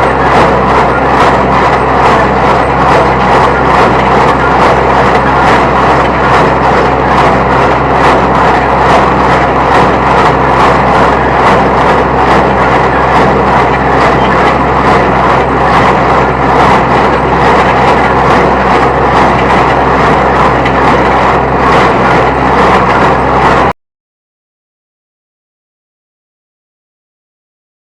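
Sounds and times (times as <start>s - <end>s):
tractor engine running: 0.0s - 23.8s.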